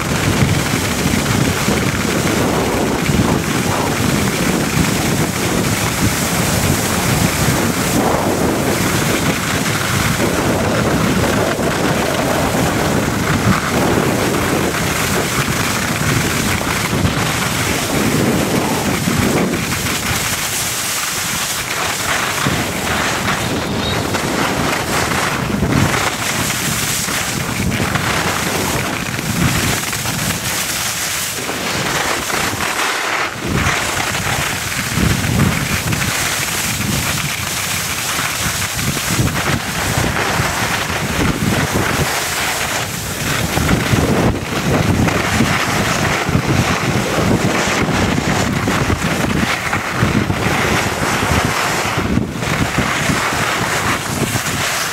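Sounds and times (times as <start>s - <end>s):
skis scraping packed snow: 0.0s - 54.9s
wind rushing over microphone: 0.0s - 54.9s.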